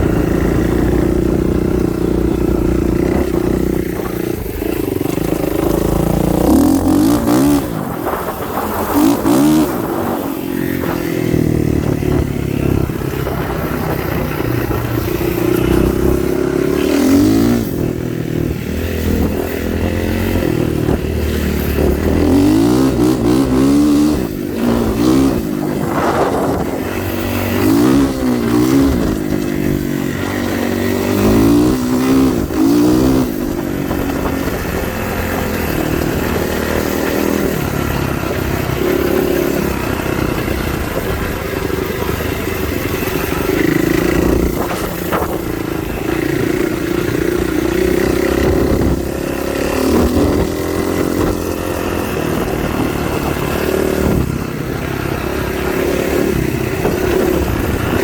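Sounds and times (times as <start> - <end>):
vehicle engine revving while driving: 0.0 - 58.0.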